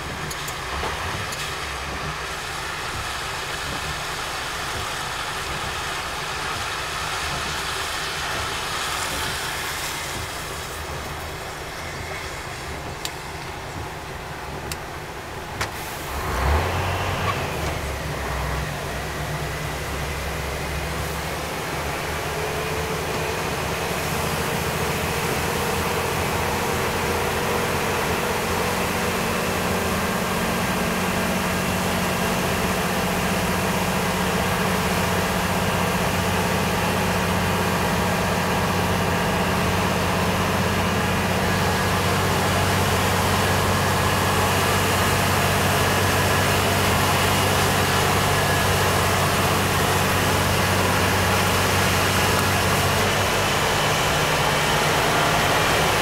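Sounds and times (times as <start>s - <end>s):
truck engine droning: 0.0s - 56.0s
tyres hissing on wet road: 0.0s - 56.0s.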